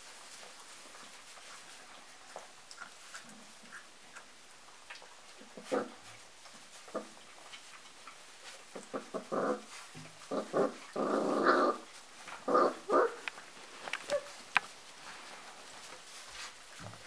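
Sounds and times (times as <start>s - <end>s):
puppies growling in play: 0.0s - 17.0s.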